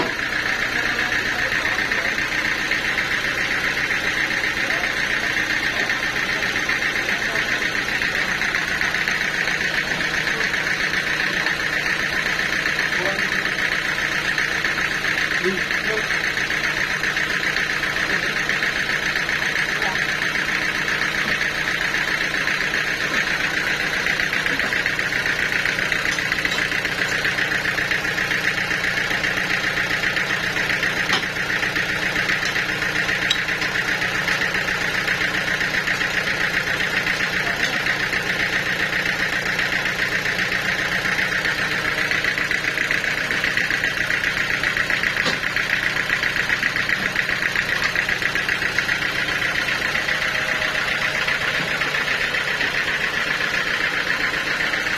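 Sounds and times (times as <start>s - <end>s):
sawmill saw droning: 0.0s - 54.9s.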